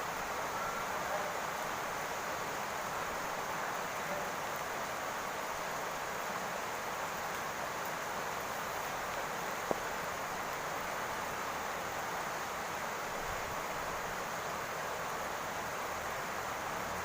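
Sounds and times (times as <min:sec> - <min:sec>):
rain falling on a roof: 0:00.0 - 0:17.0.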